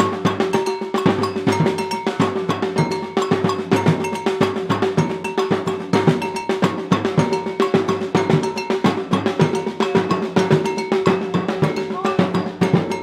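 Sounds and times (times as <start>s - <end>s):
snare drum playing: 0.0s - 13.0s
surdo drums booming: 0.0s - 13.0s.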